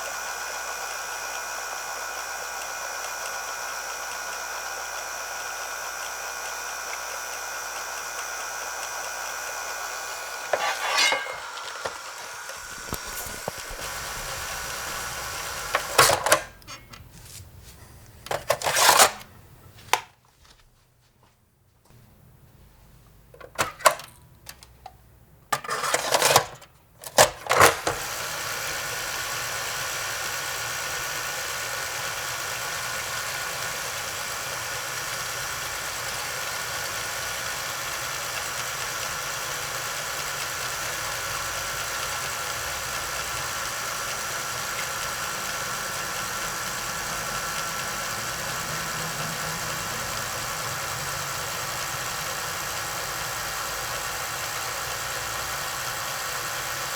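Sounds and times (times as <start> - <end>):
tape rewinder clicks and clacks: 0.0 - 17.0, 18.2 - 19.3, 23.4 - 56.9
rewinder motor whirring: 0.0 - 17.1, 18.0 - 20.0, 25.5 - 56.9.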